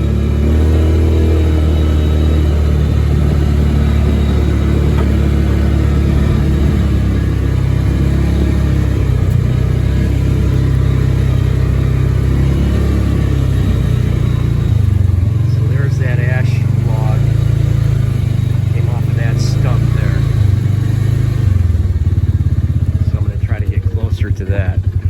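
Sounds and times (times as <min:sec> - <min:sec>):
vehicle engine droning: 0:00.0 - 0:25.0.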